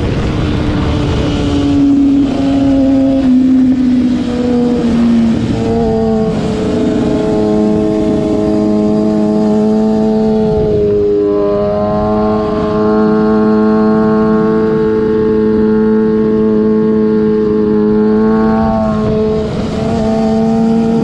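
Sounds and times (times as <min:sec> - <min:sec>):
motorcycle engine: 0:00.0 - 0:21.0
wind rush on microphone: 0:00.0 - 0:21.0.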